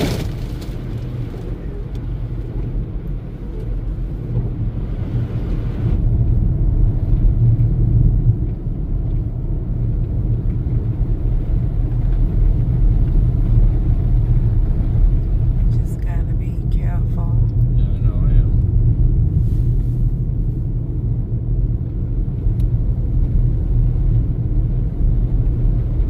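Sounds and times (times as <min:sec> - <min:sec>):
car driving rumble inside cabin: 0:00.0 - 0:26.0.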